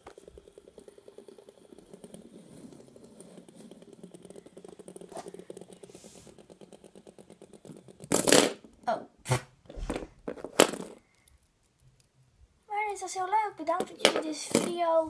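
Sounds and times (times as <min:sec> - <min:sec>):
fidget spinners rattling on wood: 0:00.0 - 0:08.9, 0:09.7 - 0:15.0.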